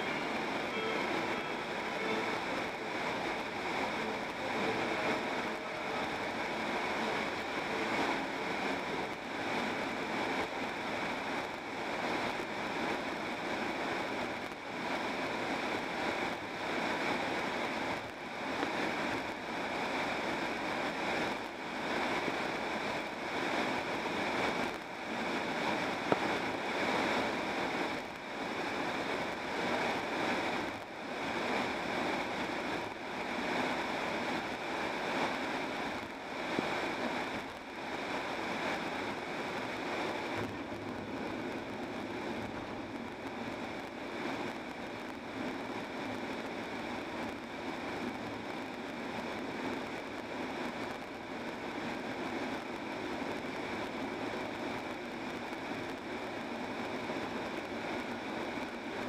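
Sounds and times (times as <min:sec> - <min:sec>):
wind noise inside car: 0:00.0 - 0:59.0.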